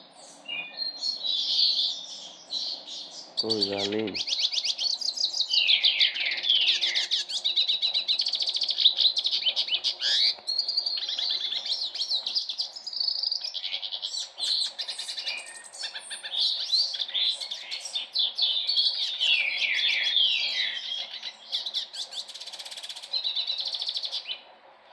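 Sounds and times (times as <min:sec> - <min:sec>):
bird twittering song: 0:00.0 - 0:24.5.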